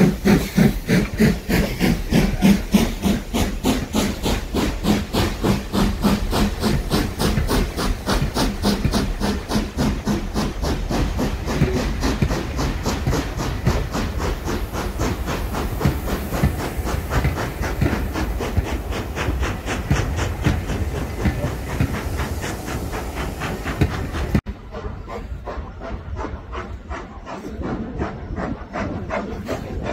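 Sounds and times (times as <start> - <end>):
coaches rolling on rails: 0.0 - 29.9
steam locomotive exhaust chuffs: 0.0 - 29.9.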